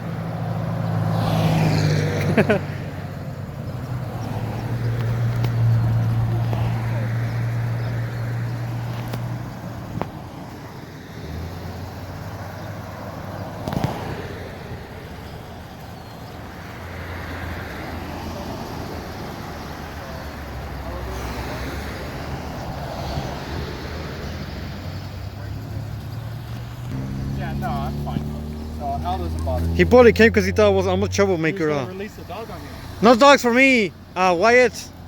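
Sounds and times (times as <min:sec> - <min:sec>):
quieter engine hum: 0:00.0 - 0:35.0
vehicle engine humming: 0:00.0 - 0:35.0.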